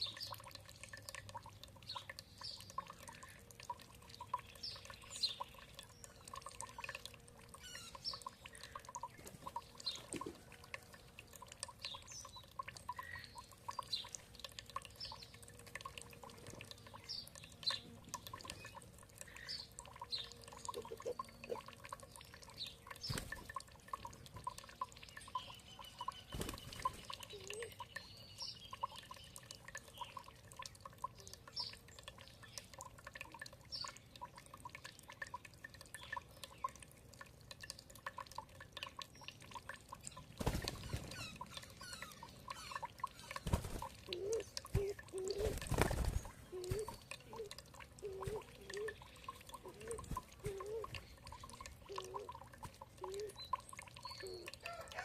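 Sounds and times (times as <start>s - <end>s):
small birds chirping: 0.0s - 37.0s, 38.1s - 54.8s
water dripping and trickling: 0.0s - 55.0s.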